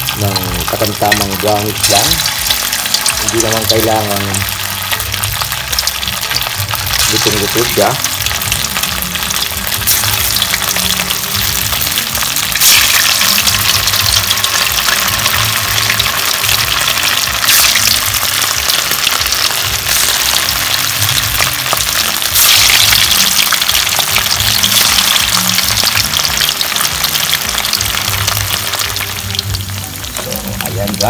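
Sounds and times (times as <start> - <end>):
meatballs sizzling in hot oil: 0.0 - 31.0.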